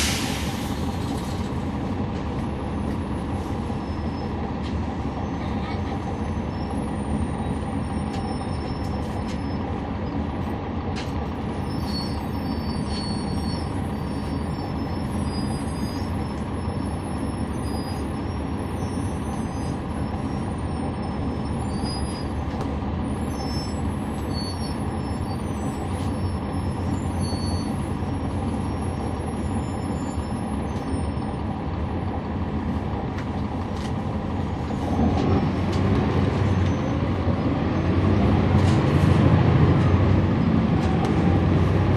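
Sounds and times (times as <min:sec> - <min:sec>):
bus engine and road noise: 0:00.0 - 0:41.9.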